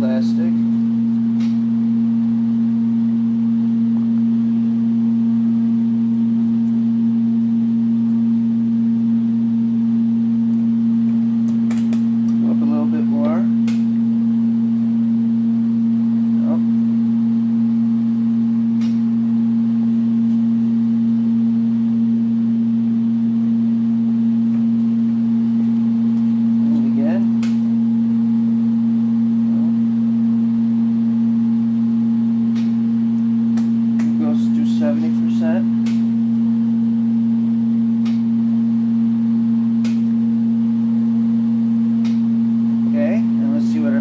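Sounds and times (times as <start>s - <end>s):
heat sealer electrical hum: 0.0s - 44.0s.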